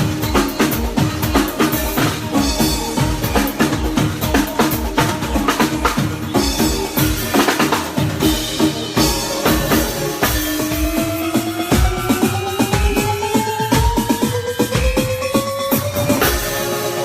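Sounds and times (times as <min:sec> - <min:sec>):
bass: 0:00.0 - 0:17.0
drum-kit beat: 0:00.0 - 0:17.0
held pitched notes: 0:00.0 - 0:17.0.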